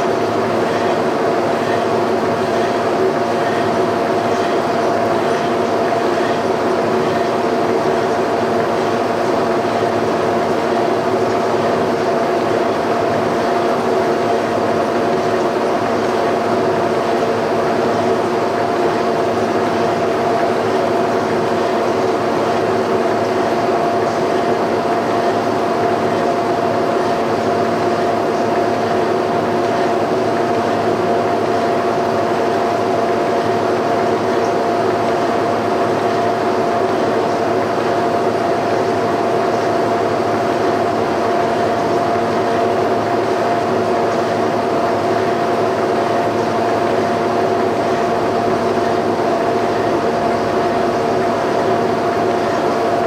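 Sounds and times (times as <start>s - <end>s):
boring bar machine hum: 0.0s - 53.0s.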